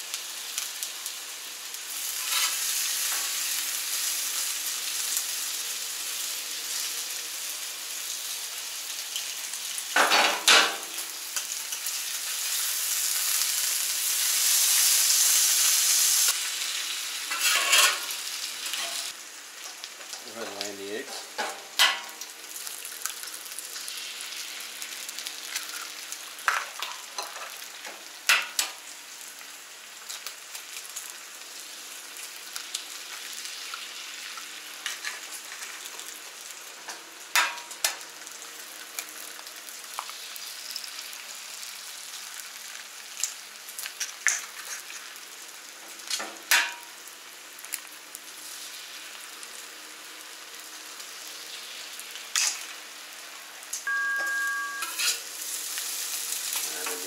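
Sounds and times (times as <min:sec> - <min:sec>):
food sizzling on a griddle: 0:00.0 - 0:57.0.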